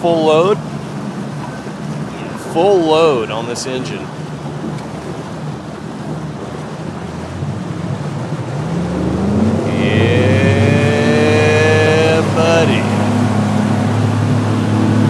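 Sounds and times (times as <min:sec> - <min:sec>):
outboard engine at full throttle: 0:00.0 - 0:15.0.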